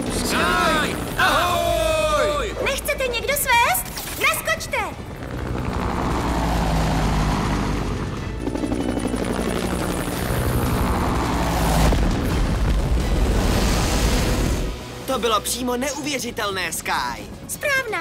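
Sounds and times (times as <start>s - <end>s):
helicopter rotor chopping: 0.0s - 14.7s
background music: 0.0s - 18.0s.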